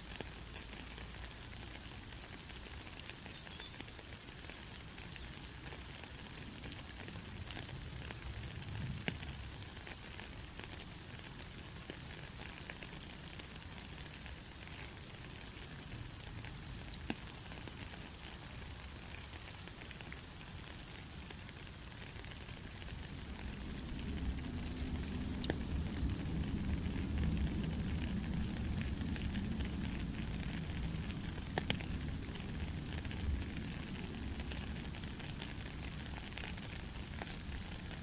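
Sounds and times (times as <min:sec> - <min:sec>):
faint crackling ticks: 0:00.0 - 0:38.0
white noise hiss: 0:00.0 - 0:38.0.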